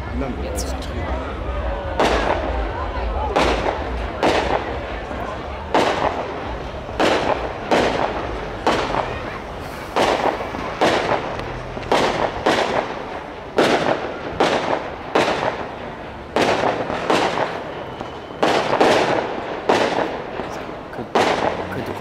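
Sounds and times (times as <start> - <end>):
fireworks bursting with echo: 0.6 - 22.0.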